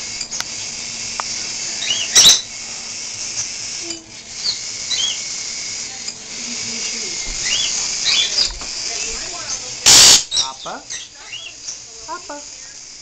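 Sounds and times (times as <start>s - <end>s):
cage birds chirping: 0.0s - 13.0s
room noise hiss: 0.0s - 13.0s.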